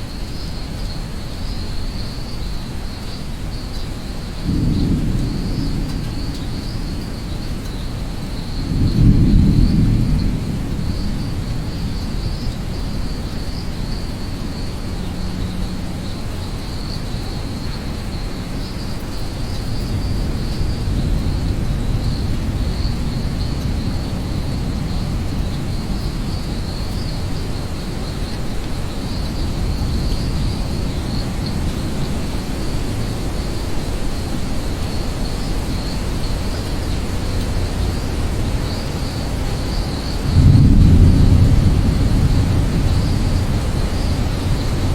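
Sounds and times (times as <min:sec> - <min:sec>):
insects chirring: 0:00.0 - 0:44.9
steady rain hiss: 0:00.0 - 0:44.9
thunder rumble: 0:03.4 - 0:44.9.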